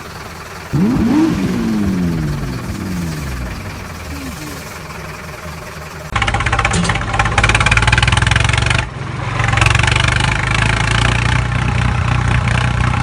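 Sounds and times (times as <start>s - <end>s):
engine running with pulsing beat: 0.0s - 13.0s.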